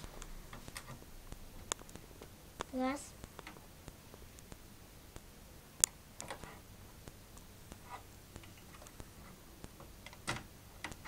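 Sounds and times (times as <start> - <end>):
cable plugs clicking and knocking: 0.0 - 4.6, 5.2 - 11.0
faint ticking: 0.0 - 11.0.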